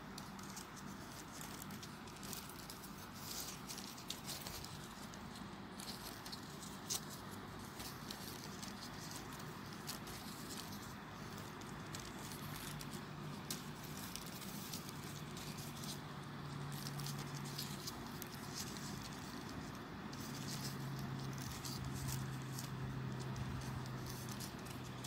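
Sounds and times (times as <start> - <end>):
paper rustling: 0.0 - 25.0.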